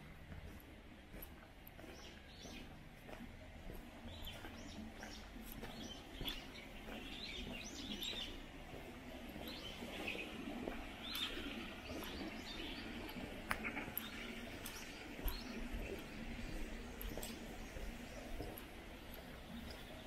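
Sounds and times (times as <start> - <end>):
small birds chirping: 0.4 - 20.0.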